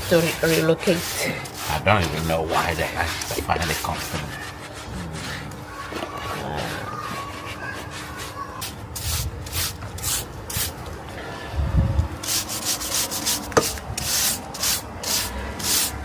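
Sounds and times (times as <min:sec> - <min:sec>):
stiff brush sweeping hard floor: 0:00.0 - 0:10.8, 0:12.2 - 0:16.0.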